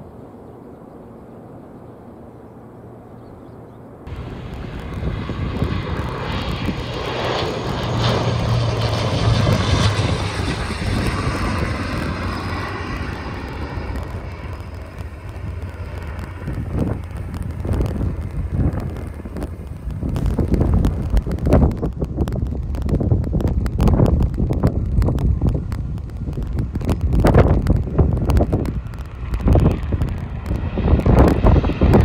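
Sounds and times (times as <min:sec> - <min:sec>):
faint distant jet rumble: 0:00.0 - 0:32.0
turboprop plane engines droning: 0:00.0 - 0:32.0.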